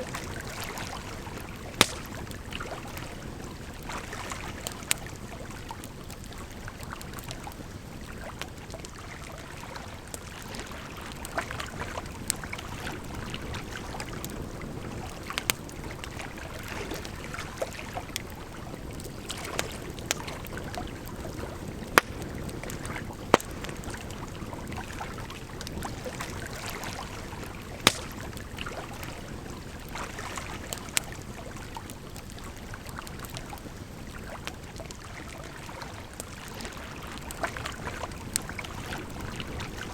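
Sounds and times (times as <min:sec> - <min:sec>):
campfire crackling and popping: 0:00.0 - 0:39.9
flowing water: 0:00.0 - 0:39.9.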